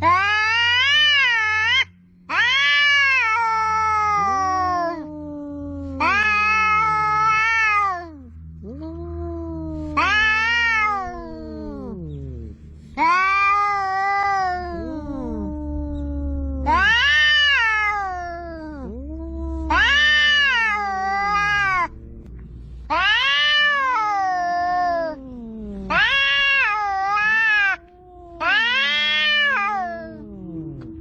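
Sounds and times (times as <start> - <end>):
cats yowling: 0.0 - 31.0
low drawn-out cat moan: 0.0 - 31.0
steady low rumble: 0.0 - 31.0.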